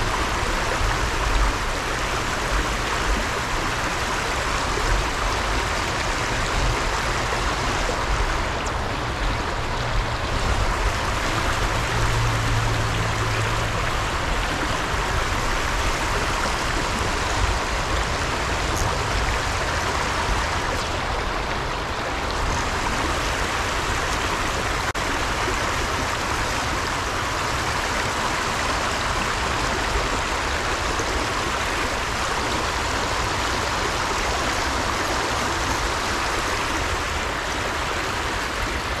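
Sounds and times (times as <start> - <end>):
stream water running: 0.0 - 39.0.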